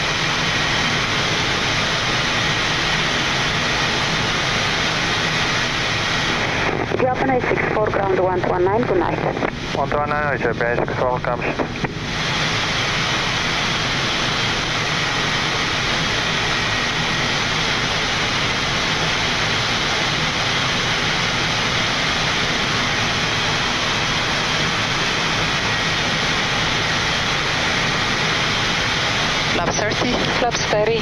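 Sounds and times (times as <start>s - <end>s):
aircraft cockpit air and engine noise: 0.0s - 31.0s.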